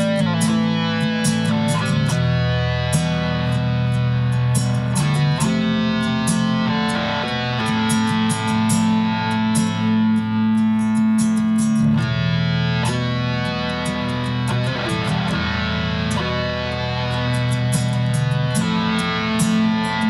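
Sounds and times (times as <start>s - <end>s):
ambient guitar with effects: 0.0s - 20.0s.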